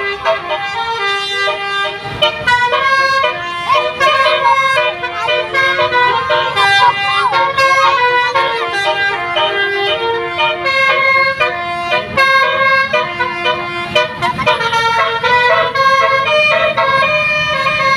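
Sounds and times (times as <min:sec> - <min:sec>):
musical air horns playing tunes: 0:00.0 - 0:17.9.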